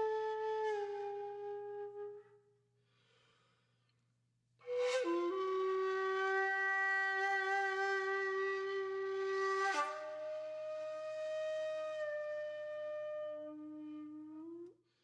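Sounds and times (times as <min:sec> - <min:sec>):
flute playing long held notes: 0:00.0 - 0:02.3, 0:04.6 - 0:14.7.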